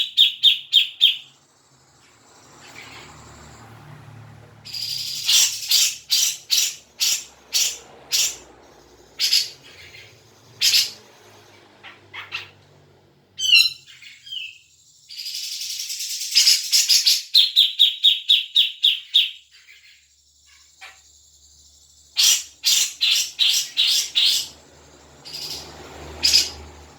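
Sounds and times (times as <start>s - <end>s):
bird harsh chattering calls: 0.0s - 1.4s, 4.6s - 12.7s, 13.4s - 21.1s, 22.0s - 26.9s
bird raspy buzz: 0.0s - 26.9s.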